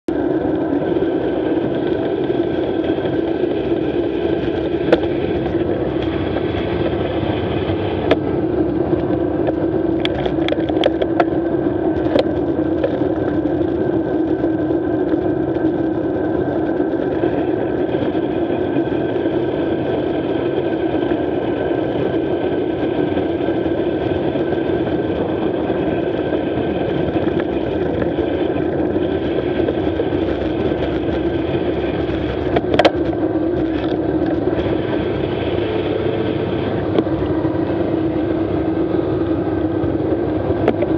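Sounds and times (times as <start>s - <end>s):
combine harvester running: 0.1s - 40.9s.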